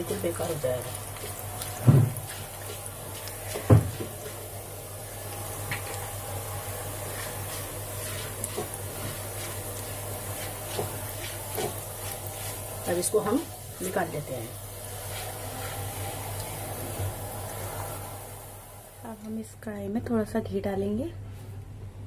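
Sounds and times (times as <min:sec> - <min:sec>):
almonds sizzling in ghee: 0:00.0 - 0:19.4.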